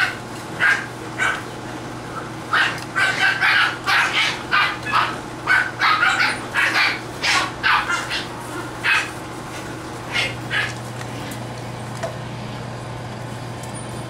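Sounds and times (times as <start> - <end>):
puppies yapping: 0.0 - 11.9.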